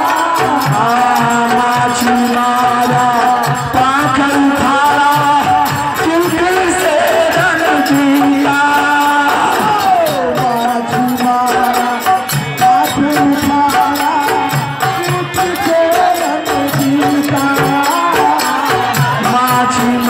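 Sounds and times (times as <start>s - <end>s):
person singing devotional melody: 0.0s - 20.0s
steady percussion beat: 0.0s - 20.0s.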